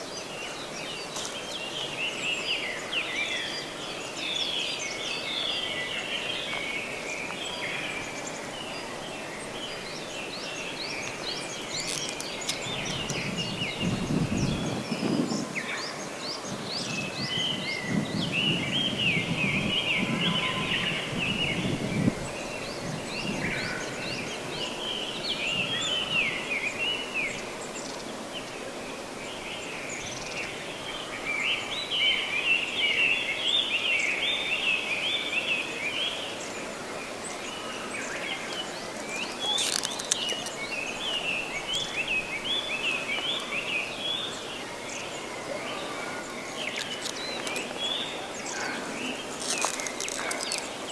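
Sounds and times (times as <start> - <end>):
steady background hiss: 0.0 - 50.9
small birds chirping: 0.1 - 28.6, 29.5 - 50.9.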